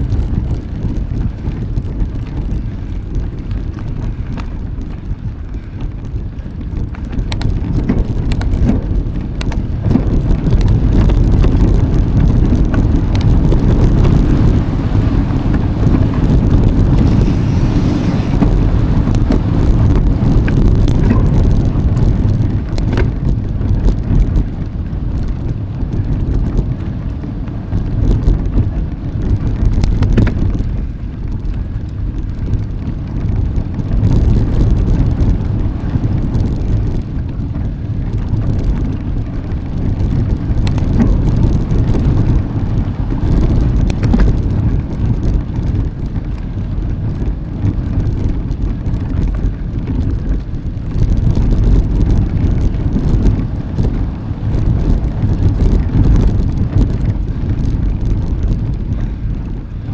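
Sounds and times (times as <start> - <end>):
bike clicks and rattles: 0.0 - 59.9
wind noise on microphone: 0.0 - 59.9.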